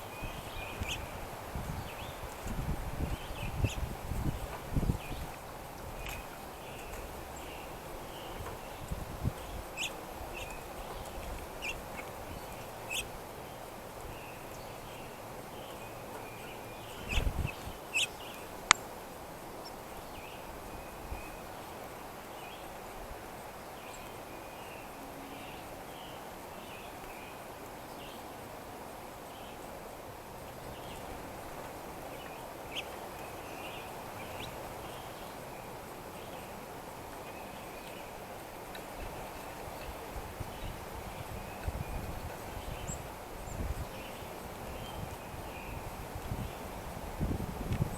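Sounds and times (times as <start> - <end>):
birds chirping: 0.0 - 22.8, 30.5 - 46.7
outdoor background hiss: 0.0 - 47.9.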